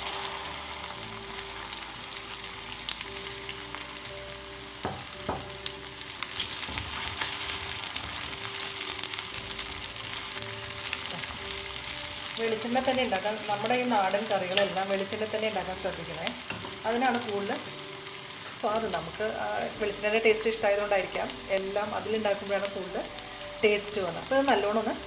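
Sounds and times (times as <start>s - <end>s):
okra sizzling in oil: 0.0s - 25.0s.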